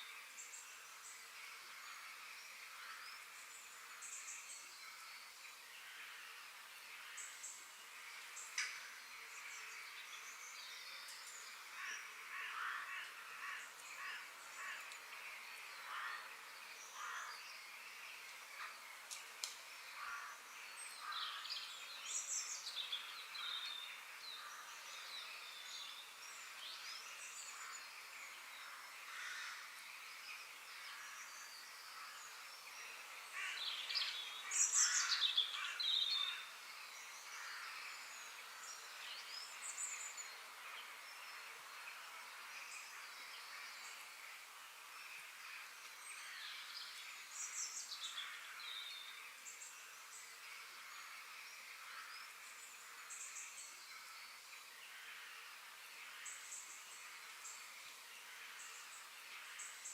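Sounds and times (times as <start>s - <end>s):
forest birds chirping: 0.0s - 59.9s
steady soft hiss: 0.0s - 59.9s.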